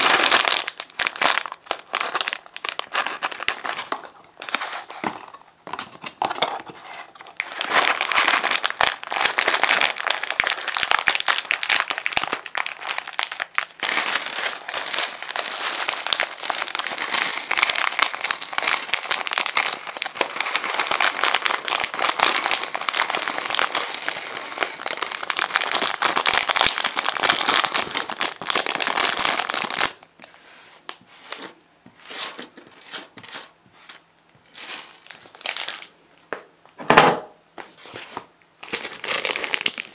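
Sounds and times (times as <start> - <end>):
plastic bag crinkling: 0.0 - 36.0, 38.1 - 39.9.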